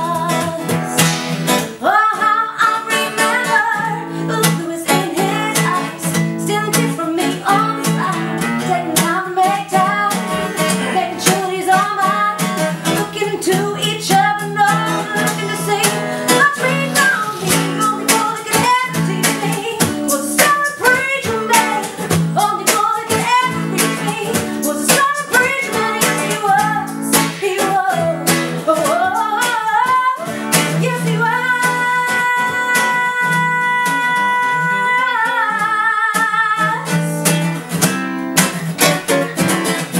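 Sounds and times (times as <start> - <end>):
strummed acoustic guitar: 0.0 - 39.9.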